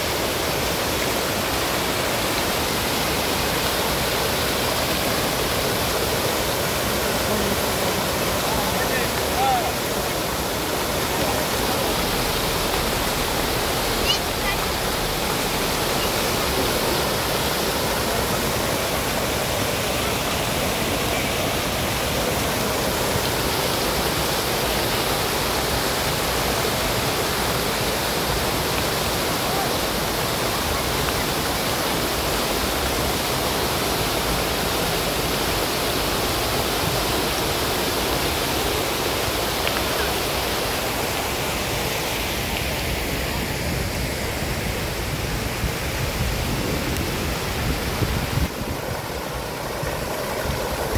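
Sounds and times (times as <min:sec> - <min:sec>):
fountain water splashing into basin: 0:00.0 - 0:50.9.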